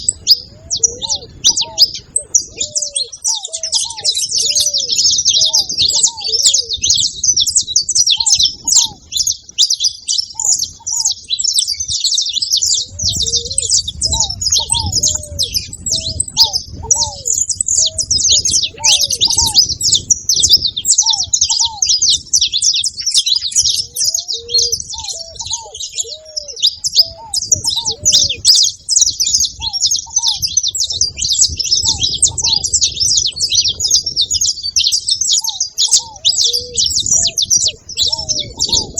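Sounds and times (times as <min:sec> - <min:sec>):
finches chirping and trilling: 0:00.0 - 0:38.9
low curved bird calls: 0:00.0 - 0:38.9.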